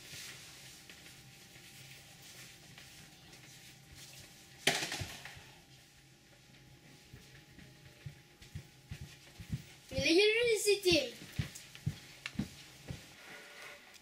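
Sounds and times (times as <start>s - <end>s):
shuffling on wooden floor: 0.0s - 4.6s, 5.4s - 14.0s.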